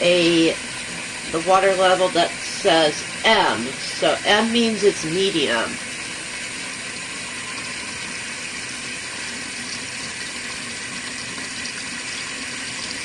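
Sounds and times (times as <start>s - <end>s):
water running from a faucet: 0.0s - 13.0s.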